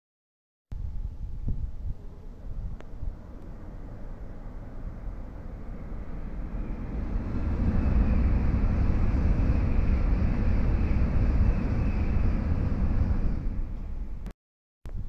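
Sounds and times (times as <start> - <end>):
train passing with rumble: 0.8 - 14.3.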